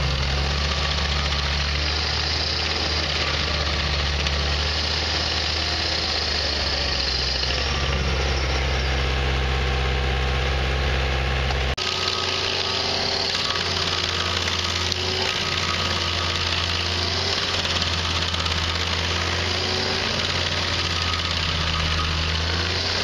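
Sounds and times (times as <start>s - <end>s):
cutter wheel grinding wood chips: 0.0s - 23.0s
stump grinder engine running: 0.0s - 23.0s.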